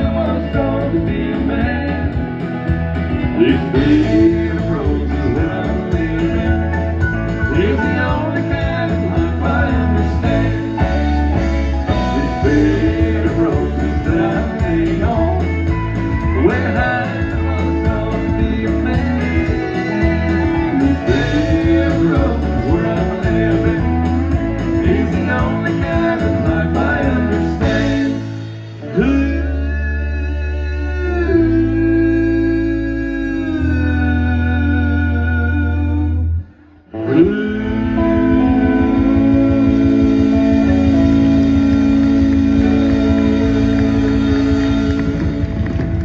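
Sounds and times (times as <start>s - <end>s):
men singing country song: 0.0s - 2.6s, 3.3s - 36.2s, 37.0s - 45.6s
guitar accompaniment: 0.0s - 46.0s.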